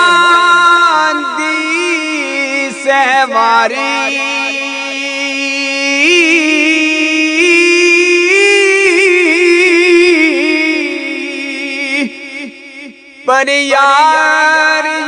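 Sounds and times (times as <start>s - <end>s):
person singing long ornamented notes: 0.0s - 15.0s.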